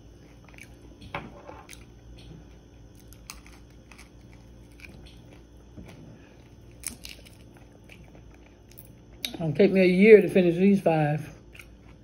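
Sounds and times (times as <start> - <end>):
person chewing crunchy food: 0.0 - 9.4, 11.4 - 12.0.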